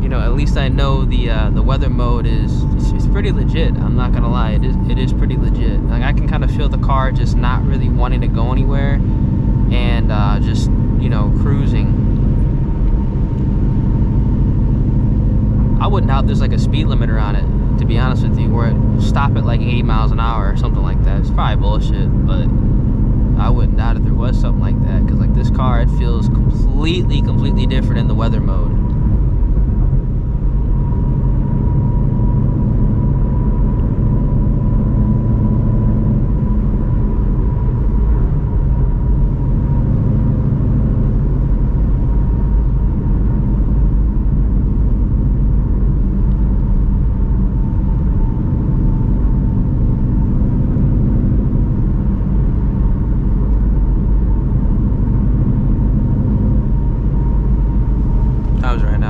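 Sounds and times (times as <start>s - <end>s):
car engine cruising: 0.0s - 59.0s
thin steady whine: 0.0s - 59.0s.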